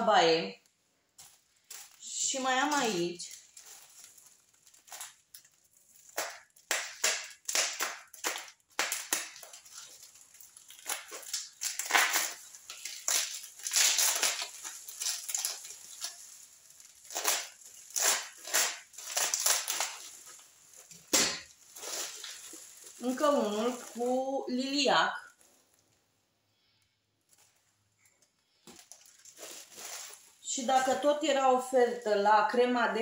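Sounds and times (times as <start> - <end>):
plastic wrapping crinkling: 0.2 - 33.0.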